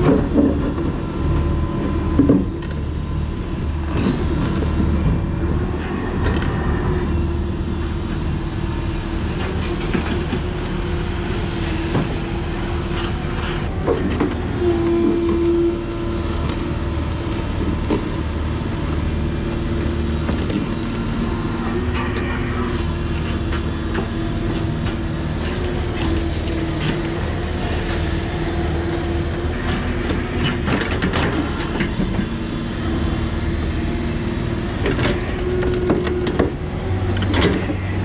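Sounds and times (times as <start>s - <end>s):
excavator diesel engine running: 0.0s - 38.0s
hydraulic whine: 0.0s - 38.0s.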